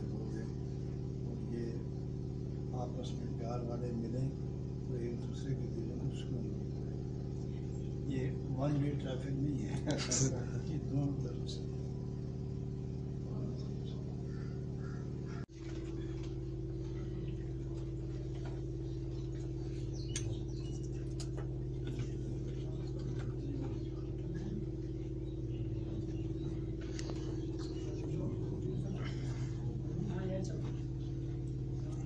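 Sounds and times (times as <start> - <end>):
low hum of fixed tones: 0.0 - 32.0.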